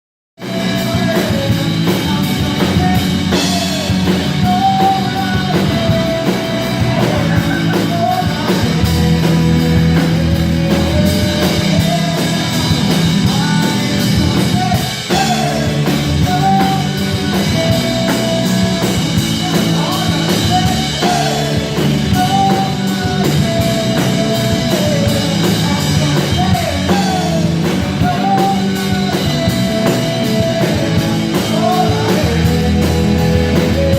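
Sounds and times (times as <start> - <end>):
rock band playing: 0.4 - 33.9.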